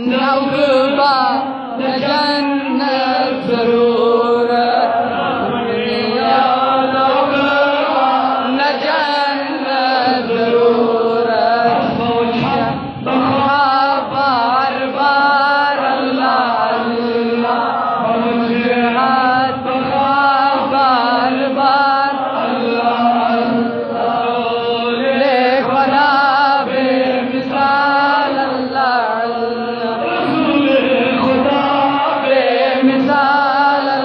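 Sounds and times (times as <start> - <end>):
man chanting into a microphone: 0.0 - 34.0.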